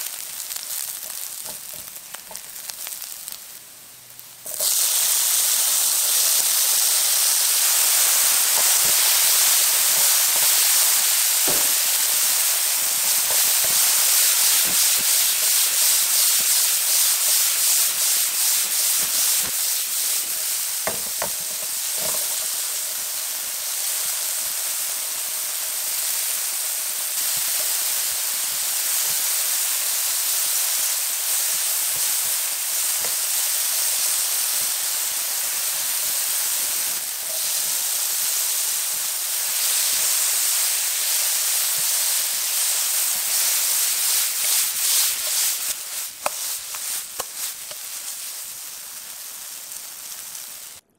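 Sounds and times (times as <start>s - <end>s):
tomatoes sizzling in a frying pan: 0.0s - 50.9s.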